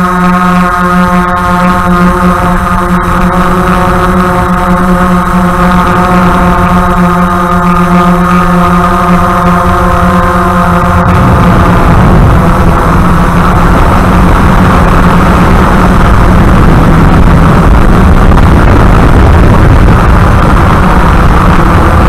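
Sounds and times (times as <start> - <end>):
drone motors and propellers whirring: 0.0 - 22.0.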